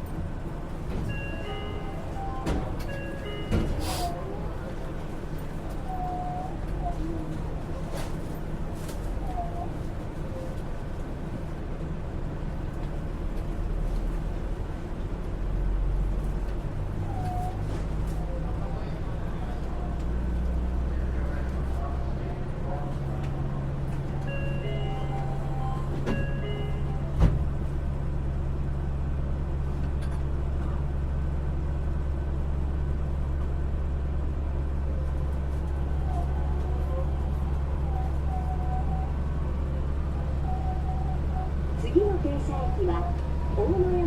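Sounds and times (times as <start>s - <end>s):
monorail train rumbling: 0.0s - 44.0s.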